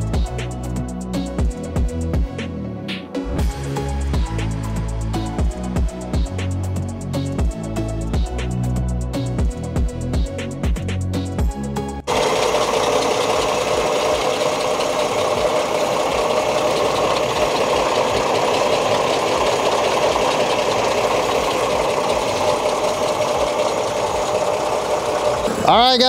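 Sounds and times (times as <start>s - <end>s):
car engine idling: 0.0s - 10.1s, 12.1s - 26.0s.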